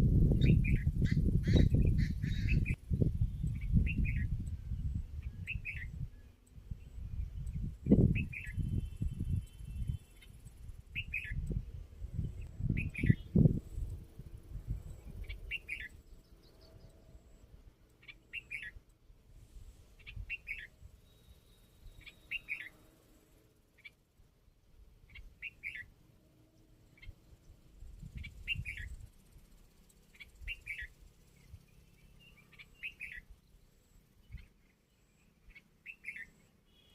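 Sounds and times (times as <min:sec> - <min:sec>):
bird chirping: 0:00.3 - 0:18.9, 0:20.0 - 0:24.0, 0:25.0 - 0:36.9.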